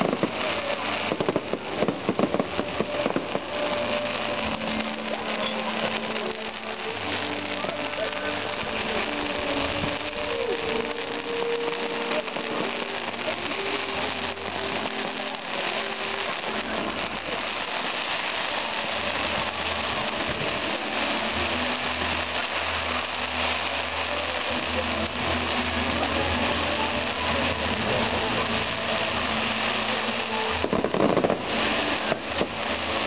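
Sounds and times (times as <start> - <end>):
fireworks hissing crackle: 0.0 - 33.0.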